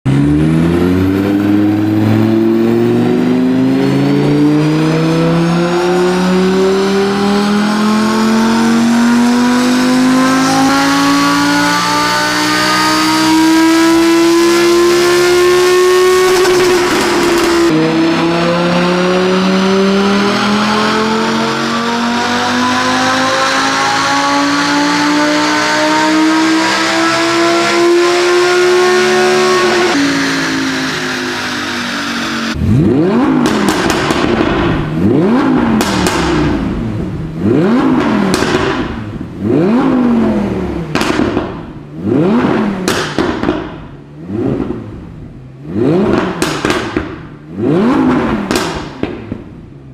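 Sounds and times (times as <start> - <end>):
car engine revving on dyno: 0.0 - 49.9.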